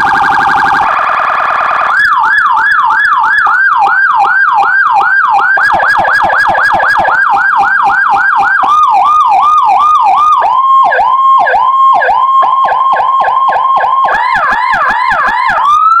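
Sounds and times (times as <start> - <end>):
electronic siren sweeping: 0.0 - 16.0
higher sweeping siren tone: 0.0 - 16.0.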